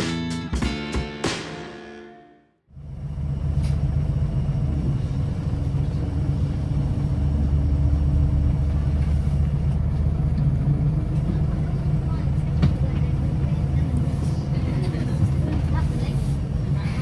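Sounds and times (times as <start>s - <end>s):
bus diesel engine idling: 2.7s - 17.0s.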